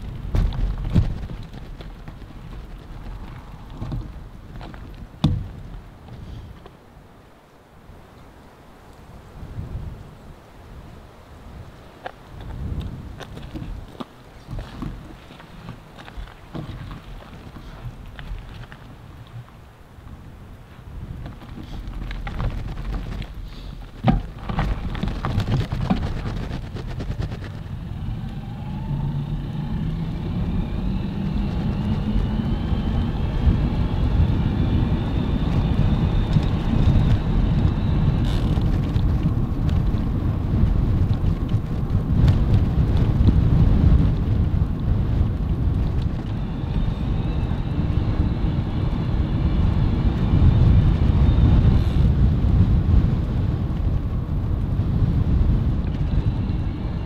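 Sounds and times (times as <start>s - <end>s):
wind buffeting microphone: 0.0s - 7.2s, 7.8s - 57.0s.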